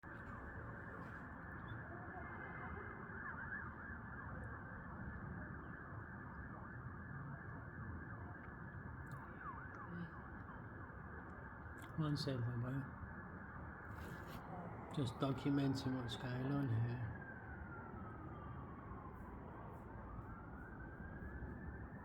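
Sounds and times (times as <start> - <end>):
distant sirens wailing: 0.0 - 22.0
low city rumble: 0.0 - 22.0.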